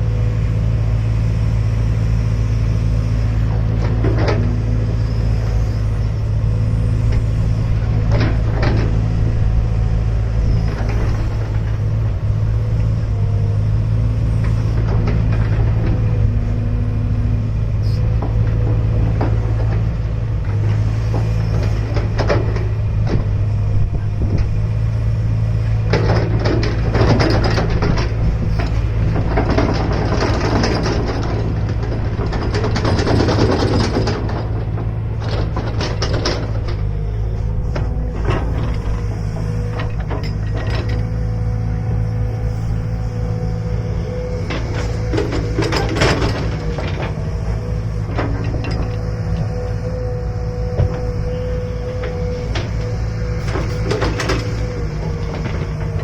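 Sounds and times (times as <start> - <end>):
excavator diesel engine humming: 0.0 - 56.0.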